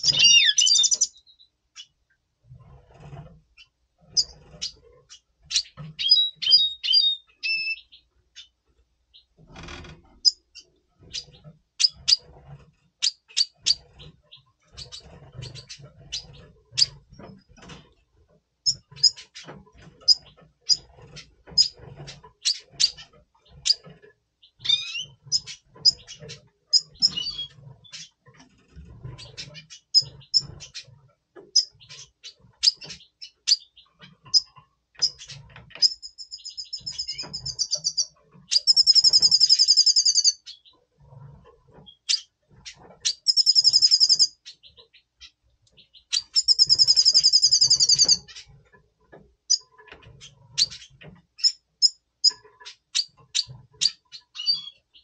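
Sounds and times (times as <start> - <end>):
buzzy rattling bird trills: 0.0 - 48.8
bird chirping and twittering: 0.0 - 55.0.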